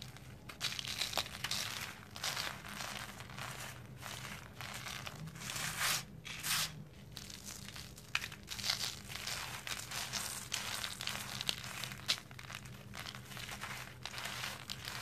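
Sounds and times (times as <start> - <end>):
powder rustling under hand: 0.0 - 15.0.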